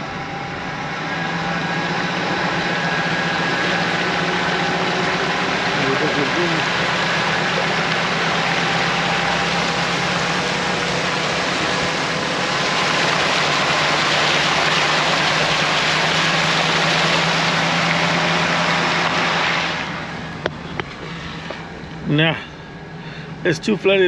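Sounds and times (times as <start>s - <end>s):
car engine idling: 0.0s - 24.0s
wind: 0.0s - 24.0s
heavy rain: 1.2s - 21.6s.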